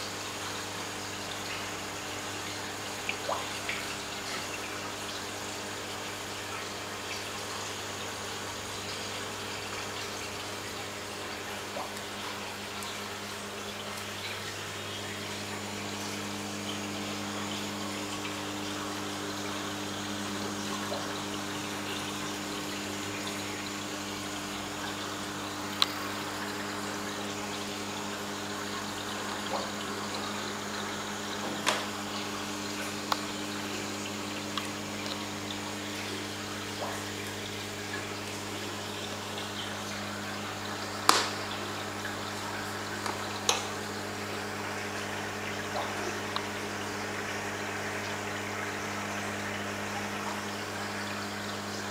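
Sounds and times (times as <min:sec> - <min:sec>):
aquarium pump humming: 0:00.0 - 0:51.9
water trickling: 0:00.0 - 0:51.9.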